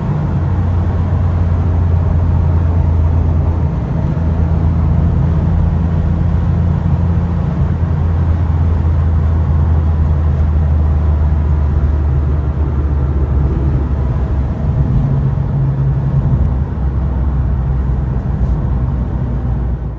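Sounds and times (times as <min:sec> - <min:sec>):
car engine running: 0:00.0 - 0:19.9.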